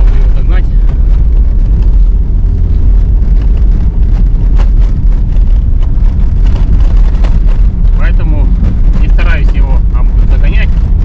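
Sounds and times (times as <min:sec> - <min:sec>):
small engine rumbling: 0:00.0 - 0:11.0.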